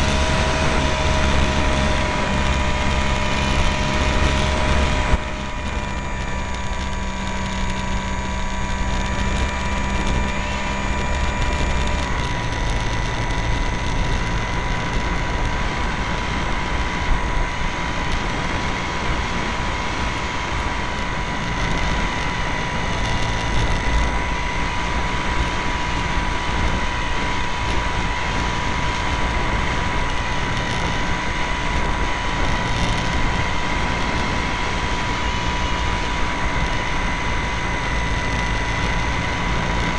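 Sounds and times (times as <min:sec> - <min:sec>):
airplane engine and propeller droning: 0:00.0 - 0:39.9
wind noise on microphone: 0:00.0 - 0:39.9.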